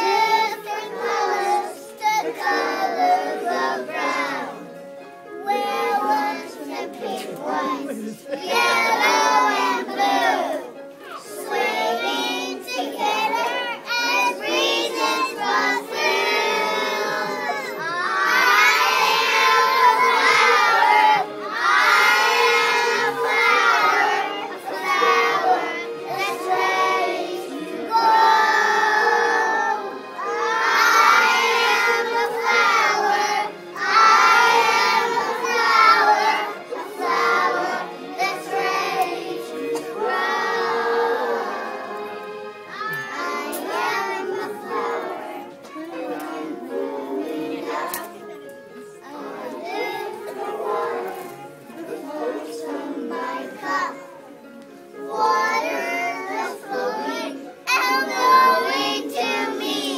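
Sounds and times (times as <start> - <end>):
young children singing: 0.0 - 59.9.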